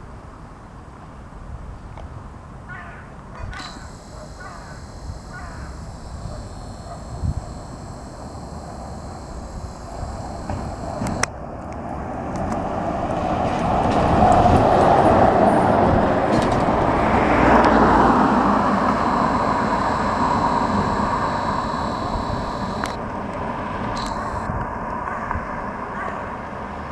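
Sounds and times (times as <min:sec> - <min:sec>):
electric bus passing: 0:03.7 - 0:26.9.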